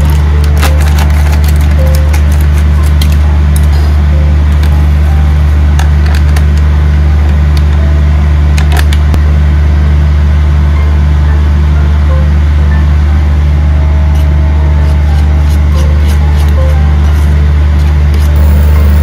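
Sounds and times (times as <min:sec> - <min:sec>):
loud low hum: 0:00.0 - 0:19.0.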